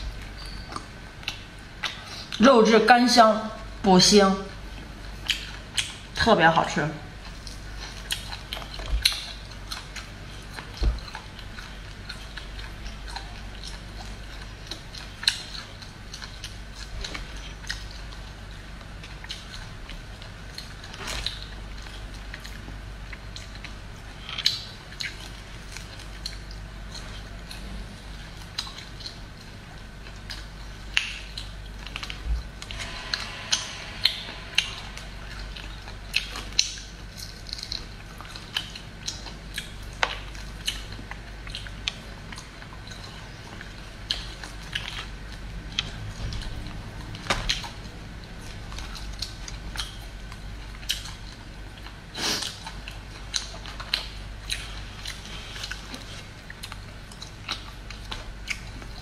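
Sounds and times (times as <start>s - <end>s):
faint steady hum: 0.0s - 59.0s
chewing: 7.1s - 59.0s
meat and bone crackling: 7.1s - 59.0s.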